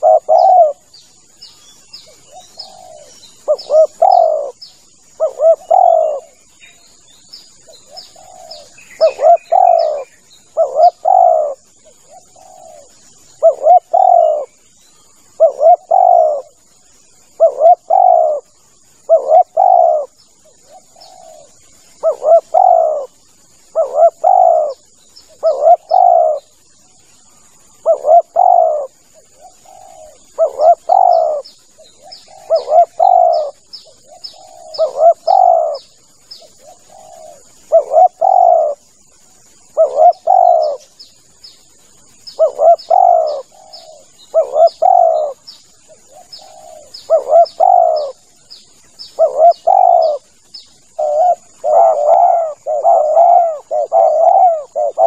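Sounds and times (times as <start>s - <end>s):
dove cooing: 0.0s - 0.9s, 1.9s - 6.6s, 7.5s - 16.7s, 17.3s - 26.6s, 27.5s - 38.8s, 39.6s - 41.0s, 41.7s - 55.0s
small birds chirping: 0.0s - 55.0s
thin high insect whine: 0.0s - 55.0s.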